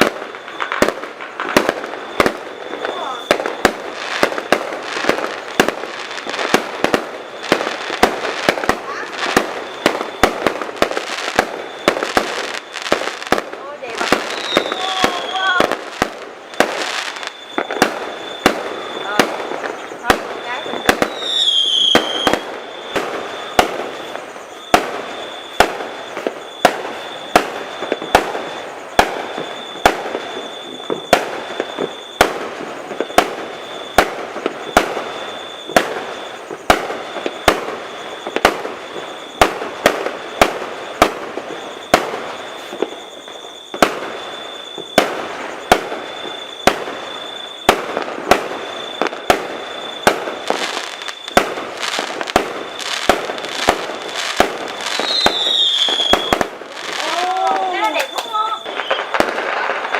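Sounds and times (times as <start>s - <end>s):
high whistle: 0.0s - 4.5s, 5.9s - 13.1s, 13.7s - 59.9s
fireworks bangs: 0.0s - 59.9s
fireworks crackle: 0.0s - 59.9s
falling whistle: 1.8s - 4.4s, 6.0s - 13.1s, 13.8s - 15.8s, 16.4s - 59.9s.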